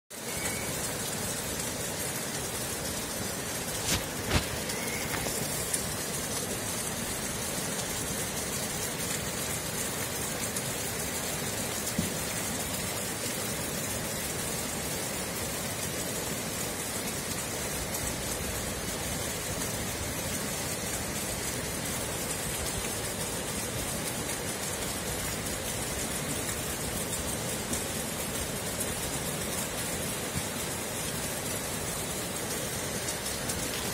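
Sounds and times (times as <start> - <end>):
rain hissing: 0.1 - 33.9
rushing flood water: 0.2 - 33.9.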